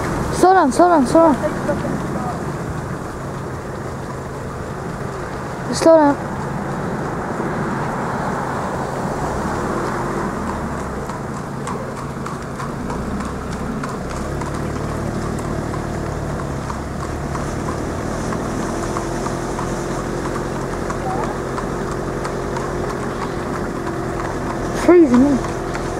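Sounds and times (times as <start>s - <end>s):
car engines humming: 0.0s - 25.9s
horse hooves clip-clopping on road: 0.0s - 25.9s.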